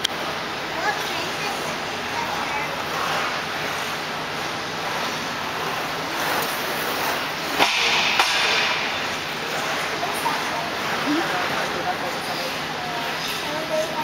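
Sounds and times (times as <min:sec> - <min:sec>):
skate blades gliding on ice: 0:00.8 - 0:14.0.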